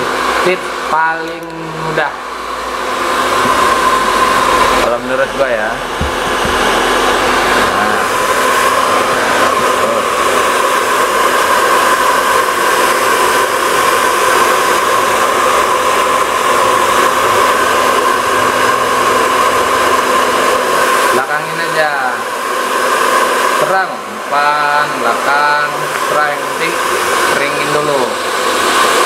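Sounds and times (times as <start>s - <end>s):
hair dryer running: 0.0s - 29.0s.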